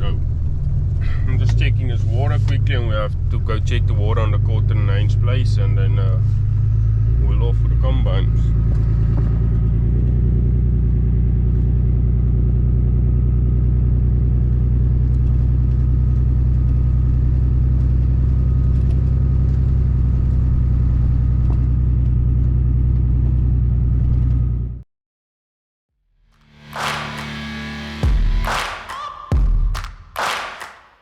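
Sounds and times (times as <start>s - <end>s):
engine humming: 0.0s - 24.8s, 26.4s - 29.9s.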